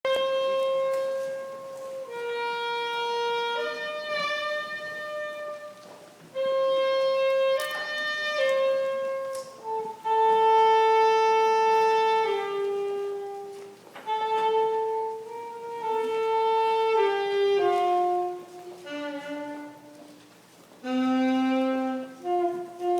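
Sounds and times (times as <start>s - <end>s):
solo wind instrument melody: 0.1s - 22.9s.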